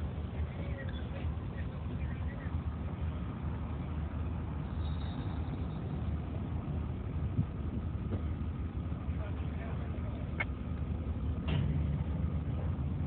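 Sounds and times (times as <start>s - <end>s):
train cars rolling on track: 0.0s - 13.0s.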